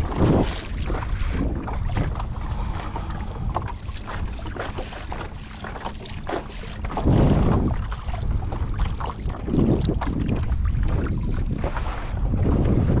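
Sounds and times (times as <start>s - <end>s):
water splashing against kayak hull: 0.0s - 13.0s
wind buffeting microphone: 0.0s - 13.0s.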